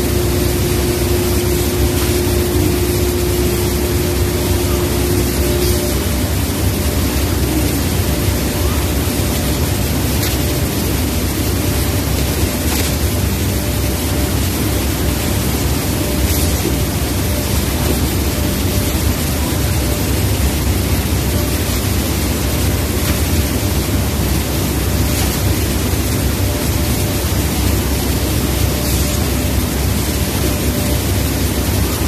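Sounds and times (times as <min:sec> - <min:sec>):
factory machinery rumble: 0:00.0 - 0:32.0.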